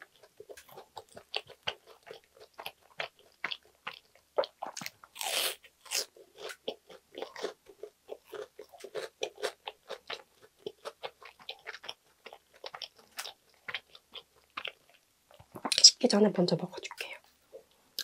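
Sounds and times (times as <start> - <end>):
chewing sandwich: 0.0 - 15.8.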